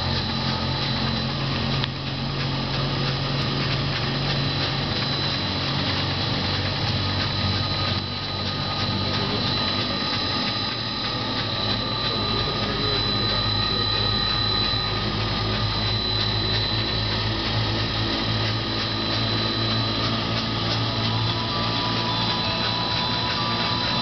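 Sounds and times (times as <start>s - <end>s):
machine high whine: 0.0s - 24.0s
machine low hum: 0.0s - 24.0s.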